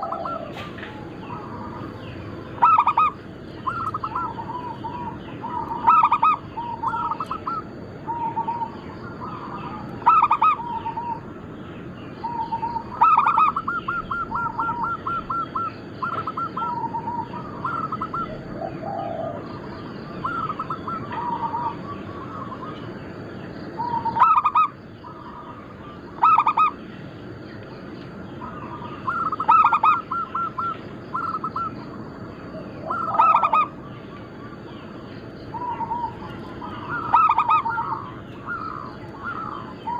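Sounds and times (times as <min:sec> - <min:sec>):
doves cooing: 0:00.0 - 0:11.6, 0:12.2 - 0:39.9.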